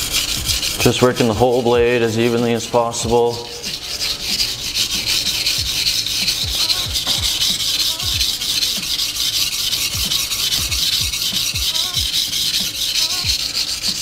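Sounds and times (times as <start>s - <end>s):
knife scraping on whetstone: 0.0s - 14.0s.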